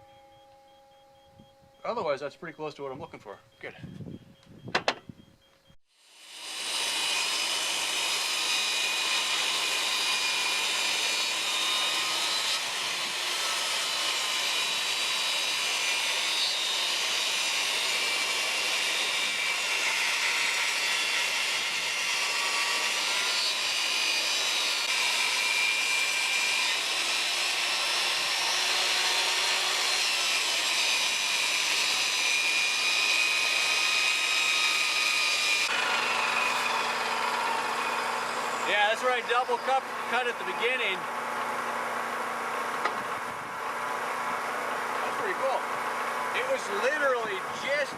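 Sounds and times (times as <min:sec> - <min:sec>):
power saw cutting wood: 0:06.0 - 0:47.9.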